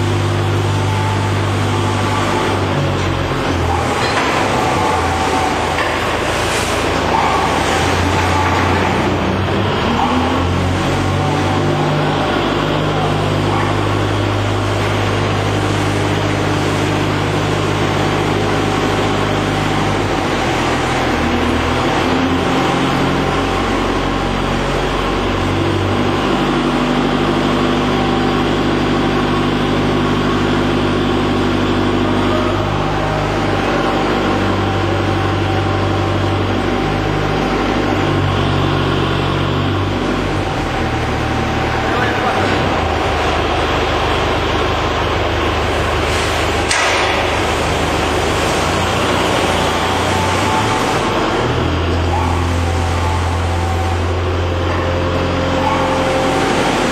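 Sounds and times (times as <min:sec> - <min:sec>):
loader diesel engine and hydraulics: 0:00.0 - 0:56.9.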